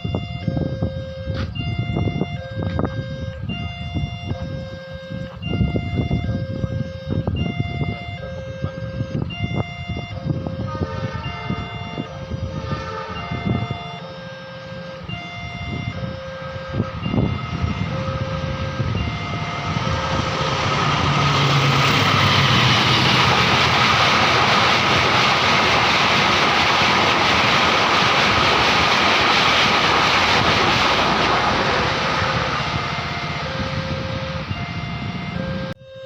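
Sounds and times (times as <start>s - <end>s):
train passing with rumble: 0.0s - 35.8s
level crossing warning tones: 0.0s - 36.0s.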